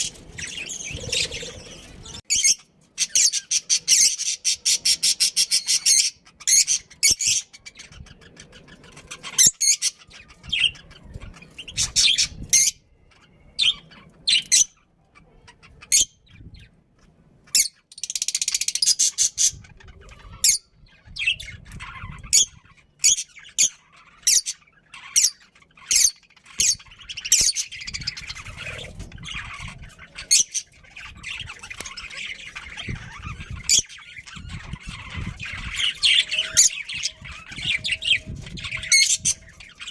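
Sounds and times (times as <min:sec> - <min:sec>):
budgies chirping and squawking: 0:00.0 - 0:39.9.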